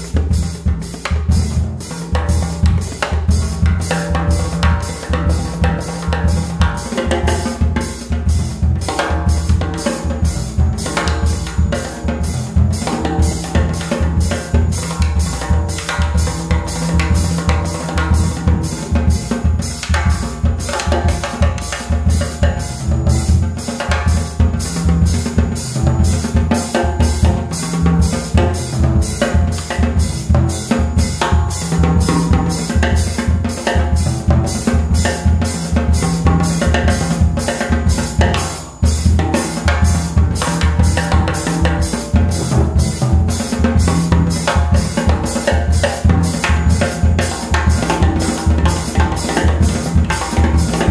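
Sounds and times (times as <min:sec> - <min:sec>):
drum kit cymbal and snare: 0:00.0 - 0:50.9.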